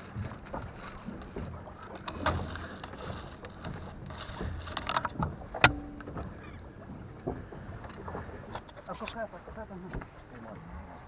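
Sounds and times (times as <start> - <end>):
low boat rumble: 0.0 - 11.0.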